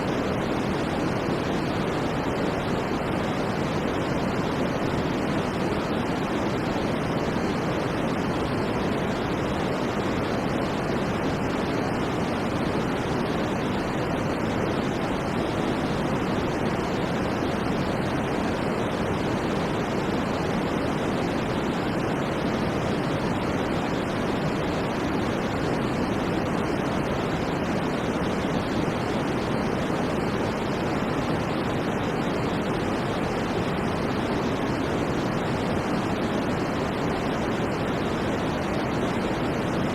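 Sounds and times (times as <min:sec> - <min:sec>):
electronic white noise hiss: 0:00.0 - 0:39.9.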